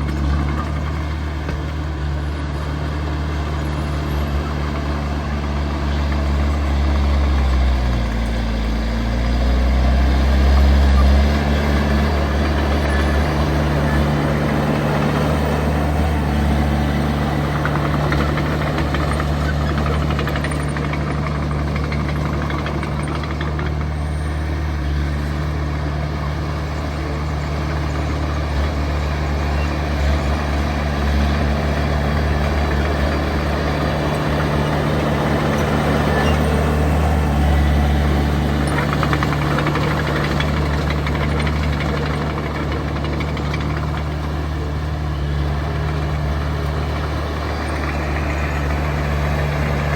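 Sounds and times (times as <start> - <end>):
heavy diesel engine droning: 0.0 - 49.9.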